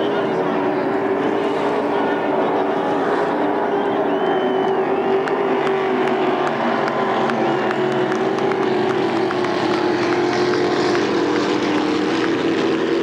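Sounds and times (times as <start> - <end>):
motorboat engines droning: 0.0 - 13.0.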